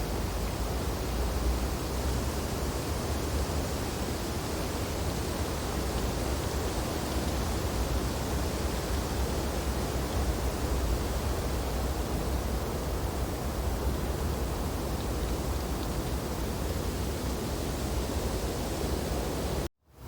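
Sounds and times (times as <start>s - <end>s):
wind through tree branches: 0.0s - 20.0s.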